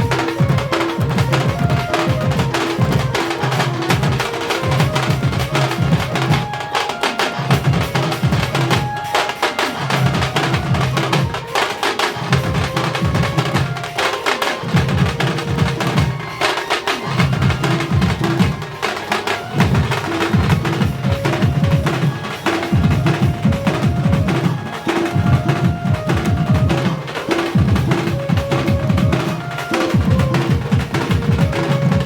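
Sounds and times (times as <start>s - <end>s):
drums and percussion: 0.0s - 32.0s.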